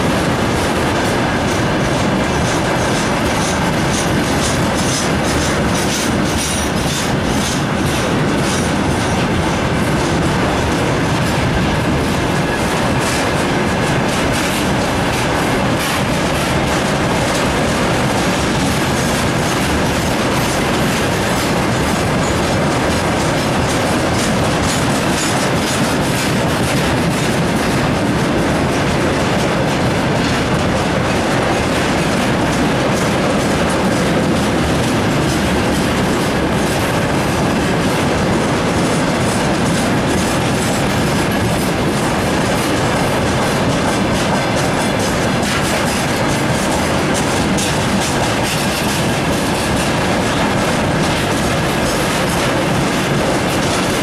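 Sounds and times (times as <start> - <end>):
freight train rumbling past: 0.0 - 54.0
wheels clattering over rail joints: 0.0 - 54.0.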